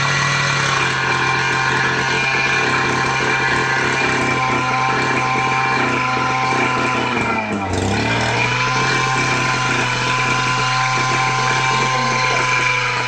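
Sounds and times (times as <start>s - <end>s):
small pump engine running: 0.0s - 13.0s.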